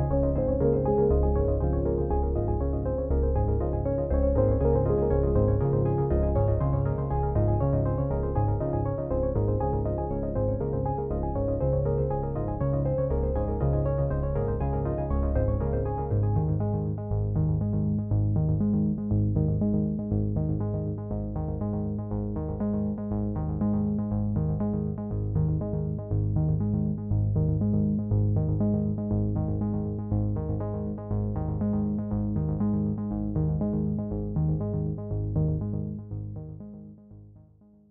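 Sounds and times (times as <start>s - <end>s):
synthesizer music with steady beat: 0.0s - 37.0s.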